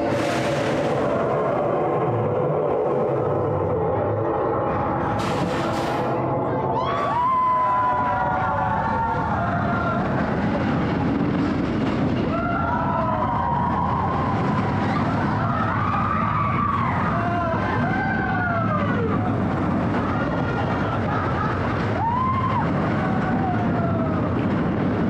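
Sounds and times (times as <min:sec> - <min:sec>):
roller coaster rumbling on track: 0:00.0 - 0:25.0.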